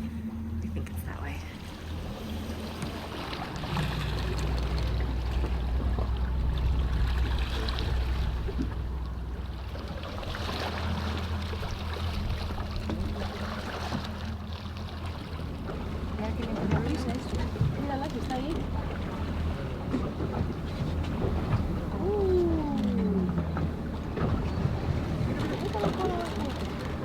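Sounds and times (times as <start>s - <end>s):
boat engine humming: 0.0s - 27.0s
water washing along hull: 0.0s - 27.0s.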